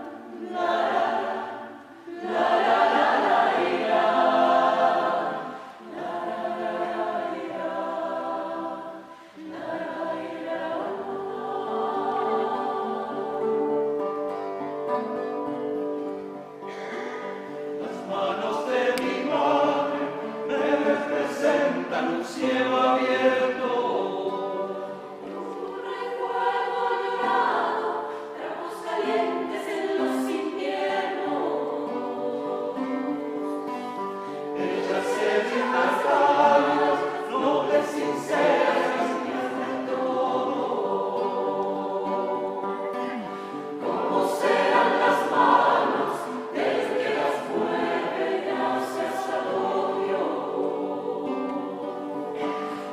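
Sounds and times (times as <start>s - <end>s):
choir singing: 0.0s - 52.9s.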